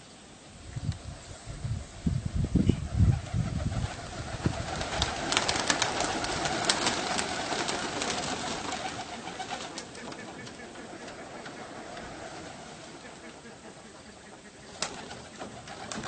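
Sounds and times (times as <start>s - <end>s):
pigeons cooing: 2.7s - 16.0s.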